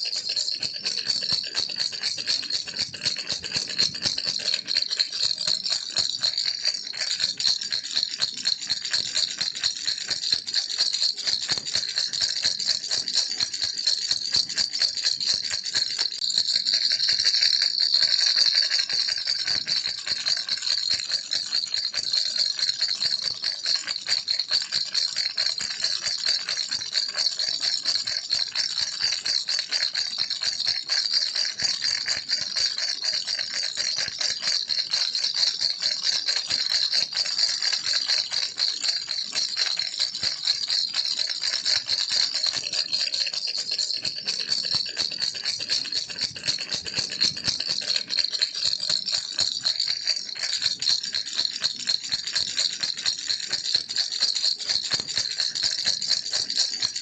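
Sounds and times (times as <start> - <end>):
toy rattle shaken: 0.0 - 57.0.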